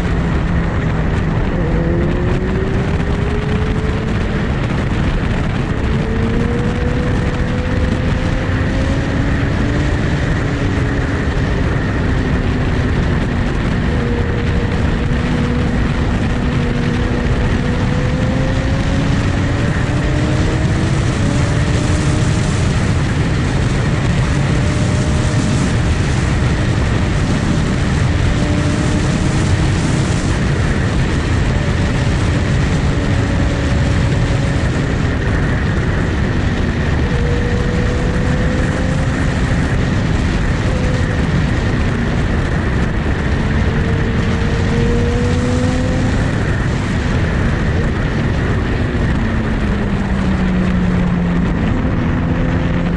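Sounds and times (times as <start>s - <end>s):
loud rushing noise: 0.0s - 52.9s
motorcycle engine cruising: 0.0s - 52.9s.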